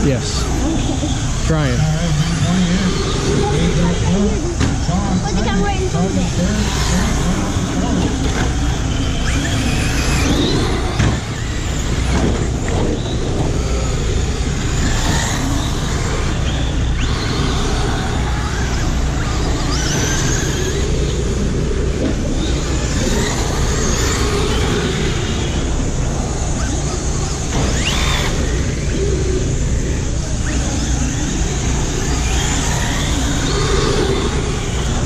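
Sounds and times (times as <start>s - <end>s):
radio-controlled car motors whining: 0.0s - 35.0s.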